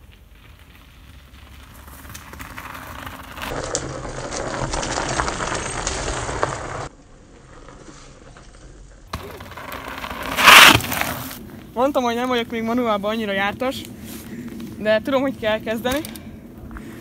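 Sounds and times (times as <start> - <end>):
bike tyres crunching on dirt: 0.0 - 17.0.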